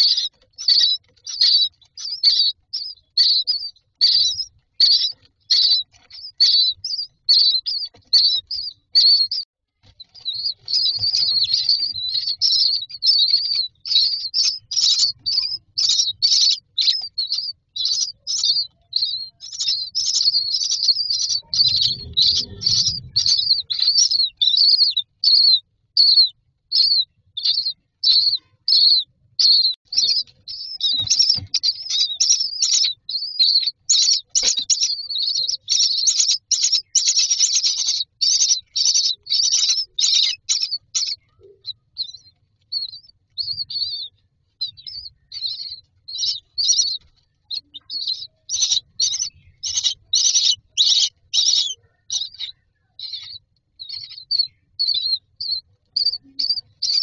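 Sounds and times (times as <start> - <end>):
nestlings begging calls: 0.0 - 57.0.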